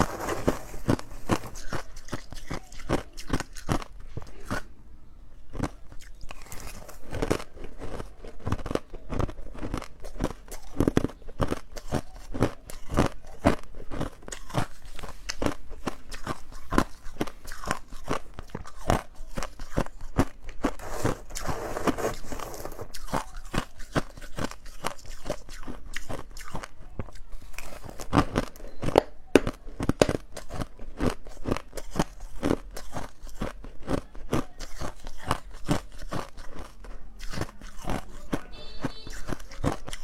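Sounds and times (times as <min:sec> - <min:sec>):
ice being chewed: 0:00.0 - 0:04.7, 0:05.5 - 0:40.0.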